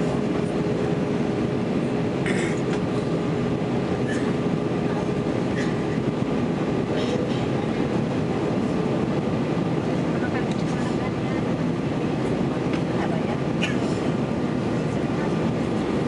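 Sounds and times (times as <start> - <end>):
airflow rumble: 0.0 - 16.0
constant low hum: 0.0 - 16.0
jet engine drone: 0.0 - 16.0.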